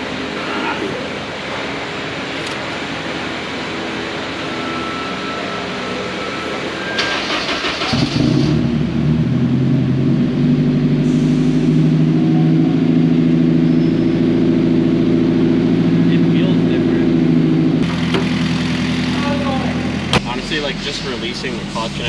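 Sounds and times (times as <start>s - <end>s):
turbocharged car engine: 0.0s - 22.0s.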